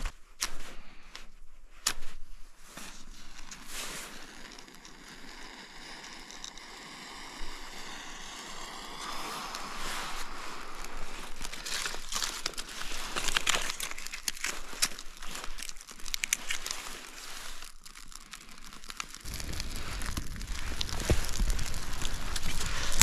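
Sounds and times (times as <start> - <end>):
campfire crackling and snapping: 2.9 - 23.0
low rumble of fire: 3.1 - 23.0.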